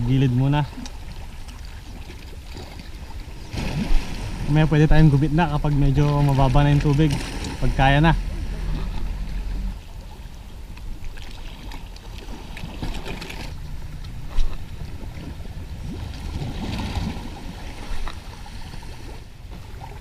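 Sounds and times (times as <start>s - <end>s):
sea water sloshing and lapping: 0.0s - 20.0s
low rumble: 3.8s - 20.0s.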